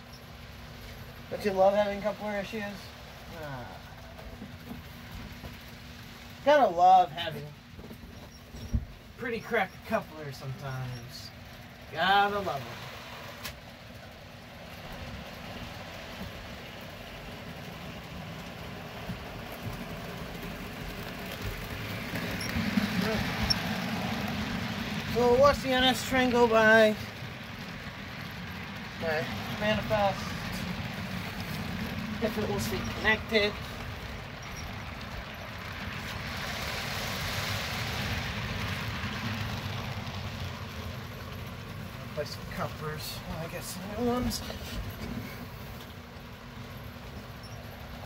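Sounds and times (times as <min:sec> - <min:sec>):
model train rumbling on track: 0:00.0 - 0:48.0.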